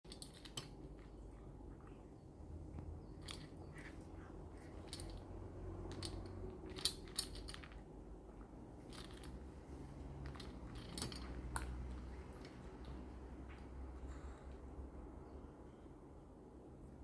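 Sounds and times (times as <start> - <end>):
pet crunching dry kibble: 0.1 - 14.4.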